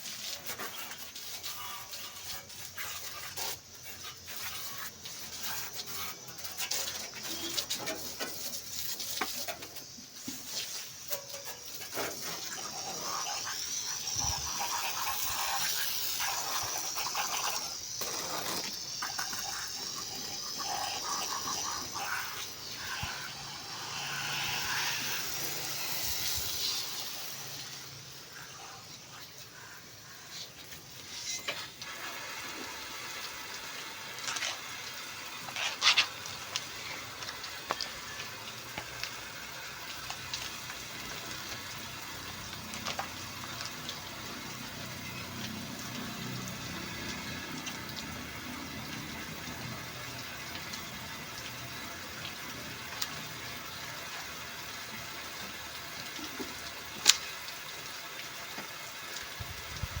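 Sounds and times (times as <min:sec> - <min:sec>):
water running and splashing: 0:00.0 - 1:00.0.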